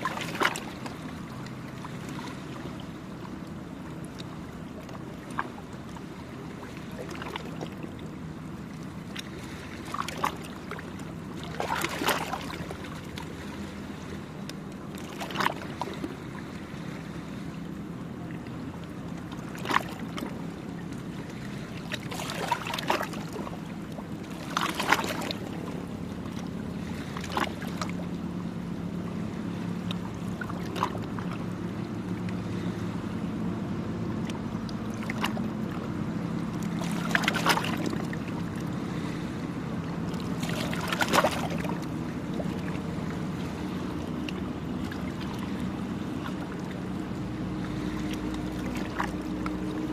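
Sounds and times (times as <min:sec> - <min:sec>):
low engine drone: 0:00.0 - 0:49.9
small waves lapping at shore: 0:00.0 - 0:49.9.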